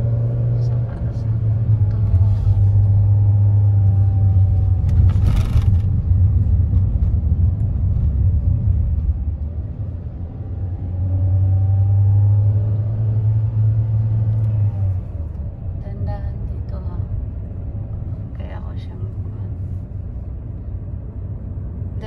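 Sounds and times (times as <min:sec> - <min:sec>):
car driving rumble from inside: 0:00.0 - 0:22.0.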